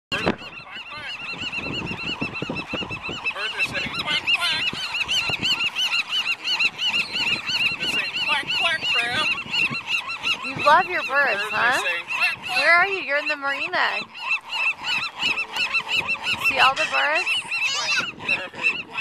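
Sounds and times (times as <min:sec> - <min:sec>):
waterbirds calling: 0:00.1 - 0:19.0.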